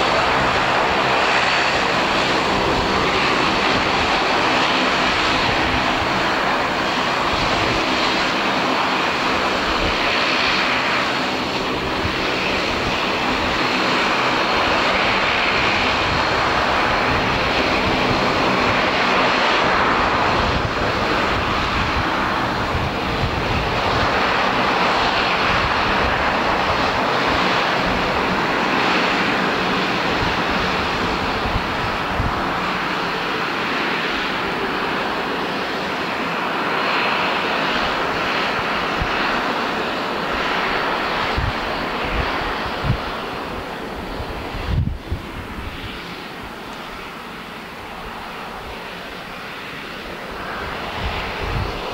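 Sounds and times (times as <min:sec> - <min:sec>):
turboprop engines running: 0:00.0 - 0:51.9.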